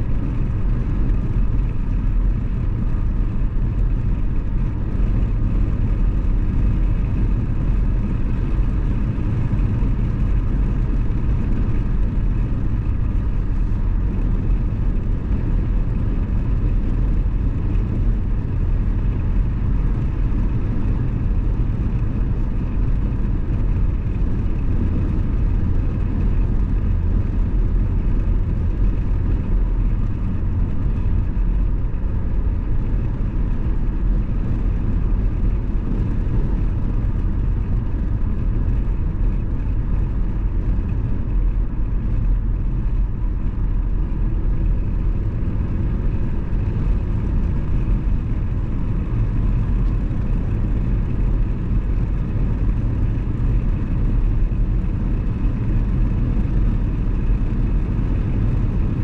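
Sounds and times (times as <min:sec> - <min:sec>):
car engine and road rumble: 0:00.0 - 0:59.0
faint steady whine: 0:00.0 - 0:59.0.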